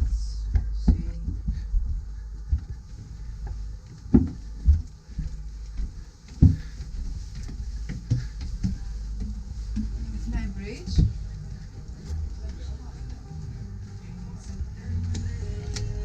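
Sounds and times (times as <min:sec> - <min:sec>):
footsteps climbing stairs: 0:00.0 - 0:16.0
low rumble: 0:00.0 - 0:16.0.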